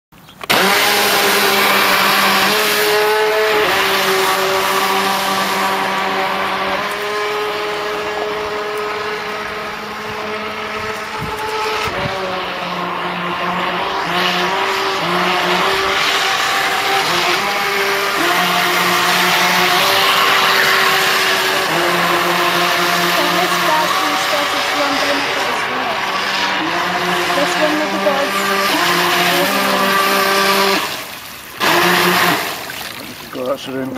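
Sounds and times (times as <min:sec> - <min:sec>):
model boat motor whining: 0:00.3 - 0:33.9.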